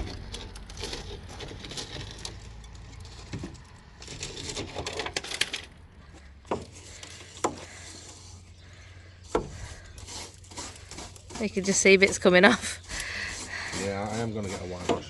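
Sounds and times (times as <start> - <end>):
scraping rusty metal: 0.0 - 15.0.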